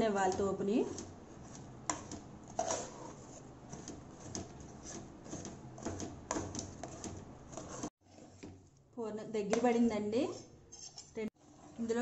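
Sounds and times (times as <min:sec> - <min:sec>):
metal spoon scraping a pan: 0:00.2 - 0:08.6, 0:10.2 - 0:12.0.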